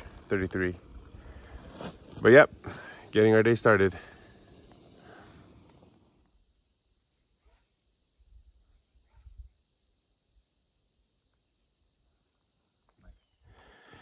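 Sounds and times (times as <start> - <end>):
high-pitched insect trill: 0.0 - 13.8.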